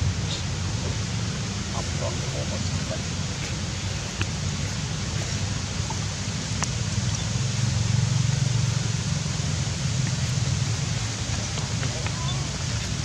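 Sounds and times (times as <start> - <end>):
hiss: 0.0 - 13.0.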